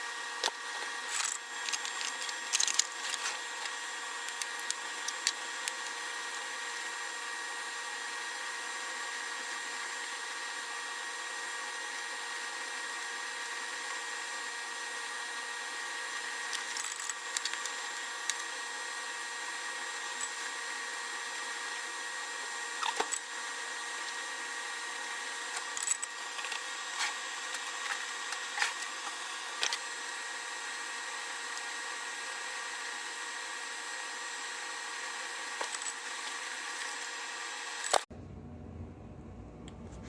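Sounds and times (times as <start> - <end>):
small power tool running: 0.0 - 38.1.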